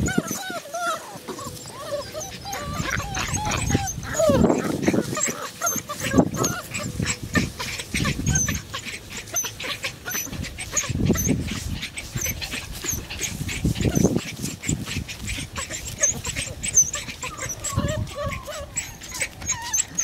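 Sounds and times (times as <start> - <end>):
puppies yipping and whimpering: 0.0 - 20.0
rustling steps in grass: 0.4 - 20.0.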